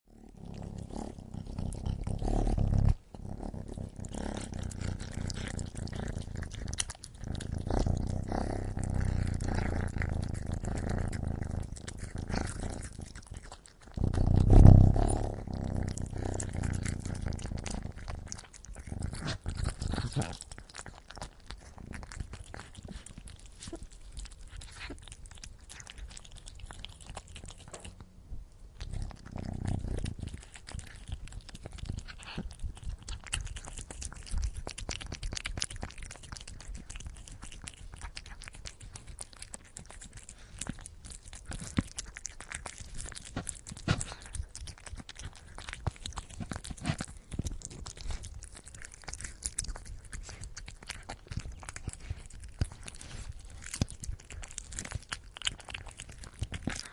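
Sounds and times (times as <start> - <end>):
cat chewing wet food: 0.1 - 56.9
cat purring: 0.1 - 56.9.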